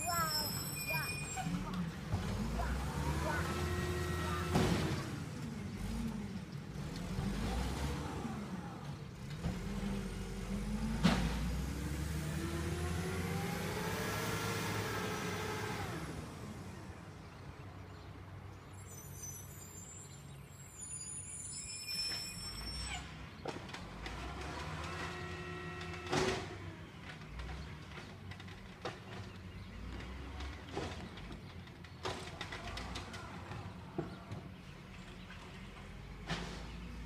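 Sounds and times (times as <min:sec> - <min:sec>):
garbage truck engine revving: 0:00.0 - 0:17.2, 0:22.1 - 0:37.0.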